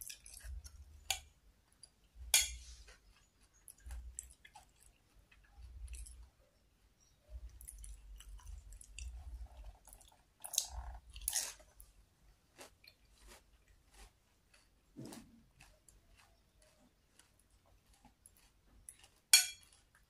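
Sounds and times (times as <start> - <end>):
close-up chewing and biting: 0.0 - 6.3, 7.4 - 20.0.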